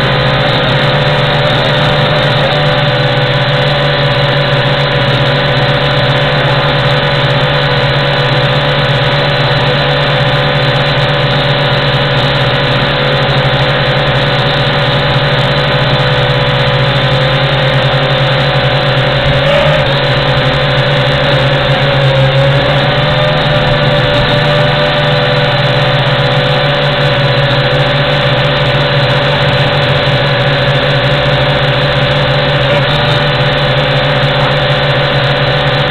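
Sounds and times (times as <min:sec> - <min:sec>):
quadcopter propellers buzzing: 0:00.0 - 0:35.9.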